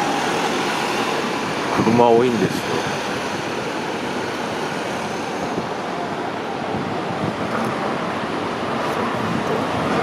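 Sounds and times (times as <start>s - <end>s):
city road traffic: 0.0s - 10.0s.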